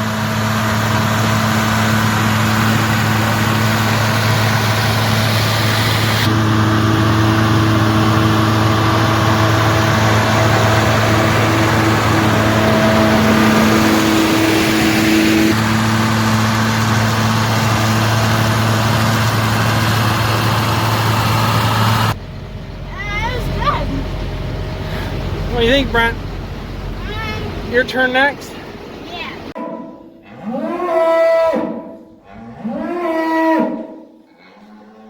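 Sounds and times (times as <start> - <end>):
tractor diesel engine running: 0.0 - 29.6.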